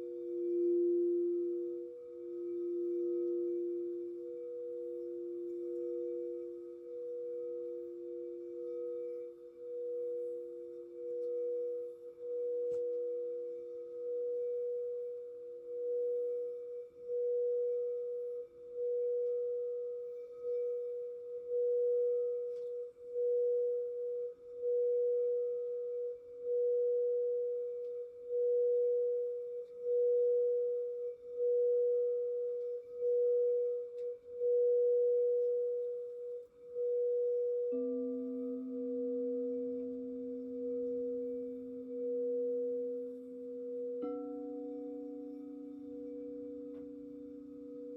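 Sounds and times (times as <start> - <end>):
lower singing bowl tone: 0.0 - 47.9
singing bowl mid-pitched tone: 0.0 - 47.9.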